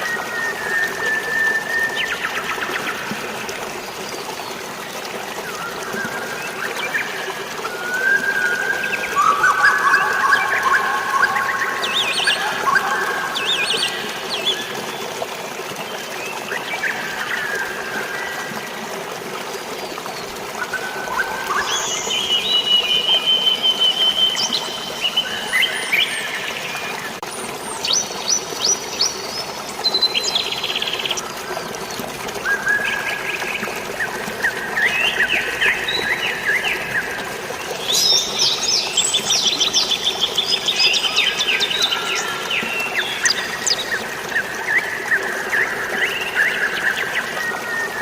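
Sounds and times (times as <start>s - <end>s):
flowing water hiss: 0.0s - 48.0s.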